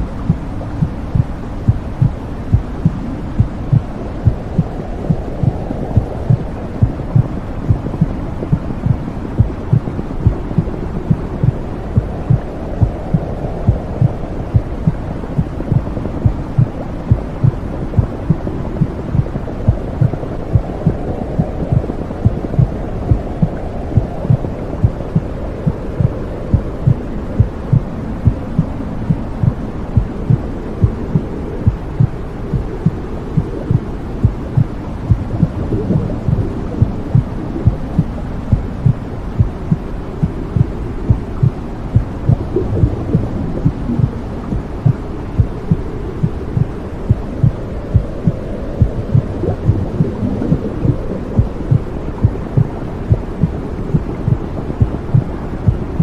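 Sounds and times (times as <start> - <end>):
heartbeat pulsing: 0.0 - 56.0
low whooshing rumble: 0.0 - 56.0.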